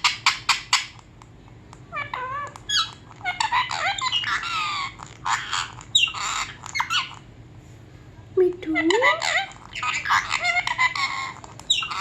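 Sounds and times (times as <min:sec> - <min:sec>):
parrot chattering and squawking: 0:00.0 - 0:01.2, 0:01.8 - 0:07.4, 0:08.6 - 0:12.0.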